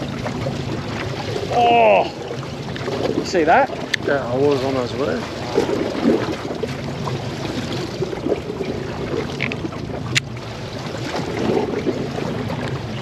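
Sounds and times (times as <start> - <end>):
low steady hum: 0.0 - 13.0
sea noise: 0.0 - 13.0
wind: 0.0 - 13.0.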